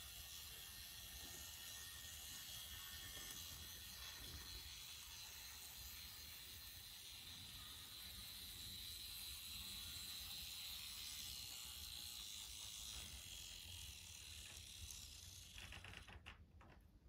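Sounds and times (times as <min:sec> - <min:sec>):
model train motor whining: 0:00.0 - 0:16.2.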